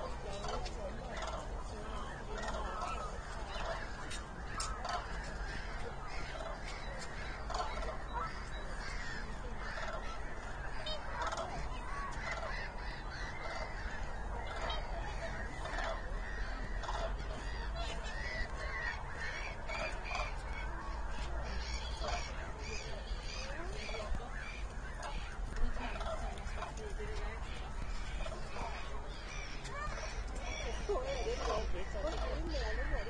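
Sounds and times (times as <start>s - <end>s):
cranes calling: 0.0s - 33.0s.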